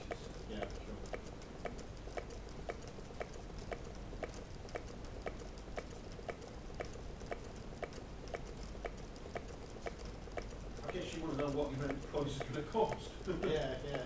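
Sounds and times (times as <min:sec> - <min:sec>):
model engine clicking: 0:00.0 - 0:14.0.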